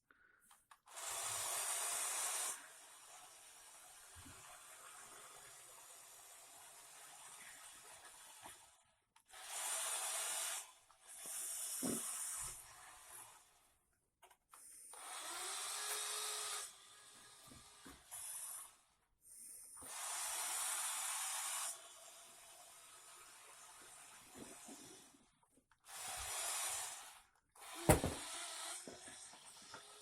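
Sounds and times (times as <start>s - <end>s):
toy truck motor whirring: 0.7s - 5.7s, 6.7s - 30.0s.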